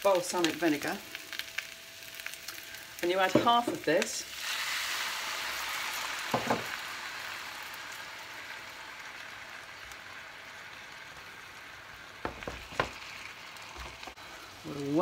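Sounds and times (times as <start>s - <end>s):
vinegar sizzling in hot dish: 0.0s - 15.0s.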